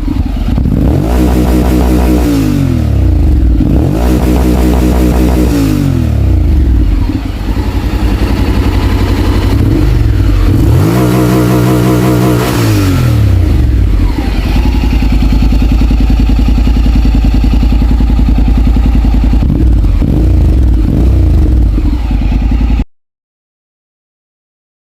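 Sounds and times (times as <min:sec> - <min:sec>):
motorcycle engine revving and idling: 0:00.0 - 0:22.9.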